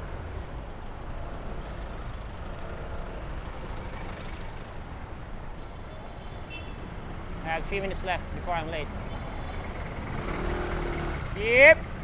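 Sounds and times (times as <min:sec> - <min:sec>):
tyre noise on road: 0:00.0 - 0:12.0
vehicle engines: 0:00.0 - 0:12.0.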